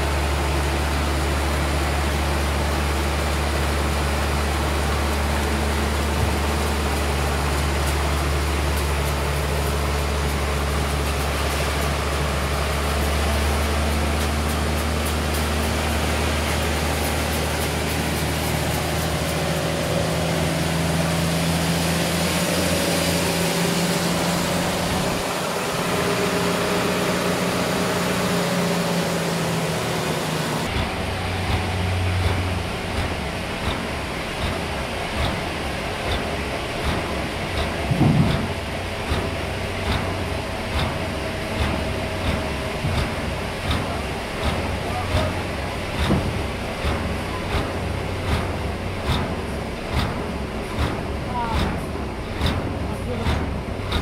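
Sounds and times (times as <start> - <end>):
sawmill engine humming: 0.0 - 54.0.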